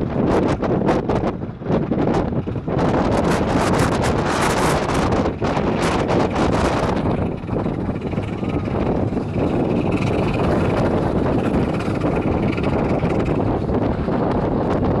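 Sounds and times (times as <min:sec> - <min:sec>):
wind buffeting microphone: 0:00.0 - 0:15.0
open train carriage rolling: 0:01.8 - 0:15.0.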